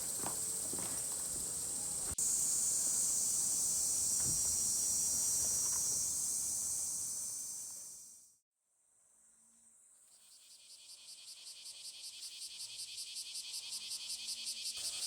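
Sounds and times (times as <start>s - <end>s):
insects chirring: 0.0s - 8.4s, 10.1s - 15.0s.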